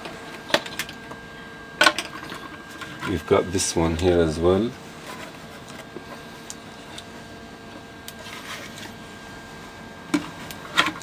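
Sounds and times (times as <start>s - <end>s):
faint hum with thin whine: 0.0s - 11.0s.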